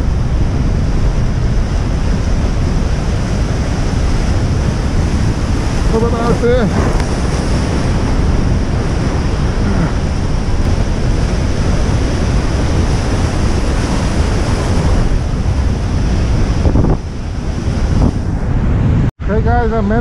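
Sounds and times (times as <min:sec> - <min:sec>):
surf breaking over rocks: 0:00.0 - 0:18.8
wind buffeting microphone: 0:00.0 - 0:20.0.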